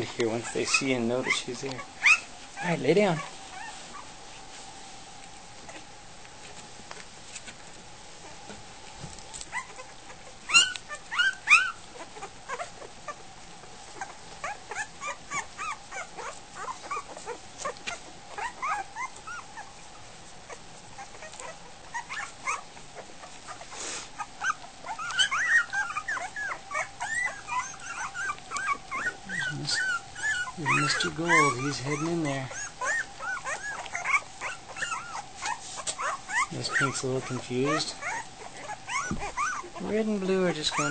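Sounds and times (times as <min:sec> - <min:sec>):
puppies squeaking and whimpering: 0:00.0 - 0:04.5, 0:05.5 - 0:07.6, 0:08.2 - 0:40.9.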